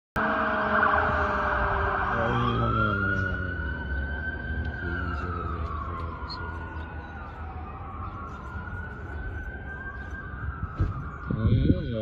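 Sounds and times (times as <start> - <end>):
siren wailing: 0.2 - 12.0.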